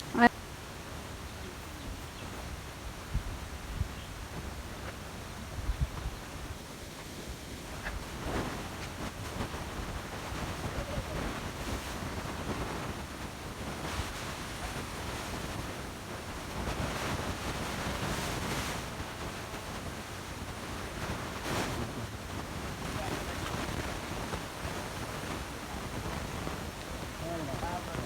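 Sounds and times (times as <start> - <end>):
wind blowing on microphone: 0.0 - 28.0.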